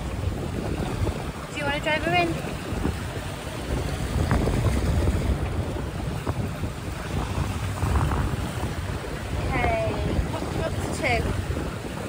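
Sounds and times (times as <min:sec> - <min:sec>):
water rushing along hull: 0:00.0 - 0:12.0
wind rumbling on microphone: 0:00.0 - 0:12.0.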